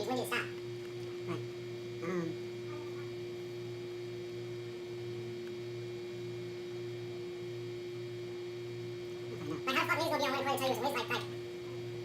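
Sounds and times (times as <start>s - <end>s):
constant pitched hum: 0.0s - 12.0s.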